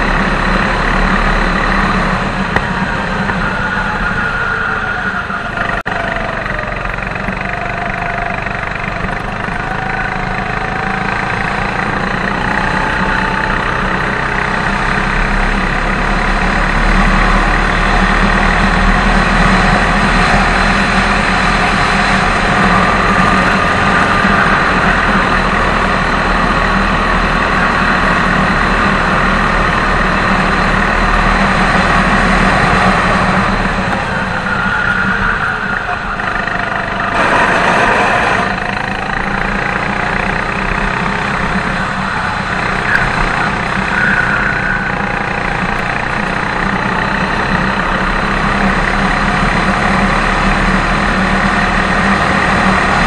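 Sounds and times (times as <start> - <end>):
go-kart engine running hard: 0.0 - 53.0.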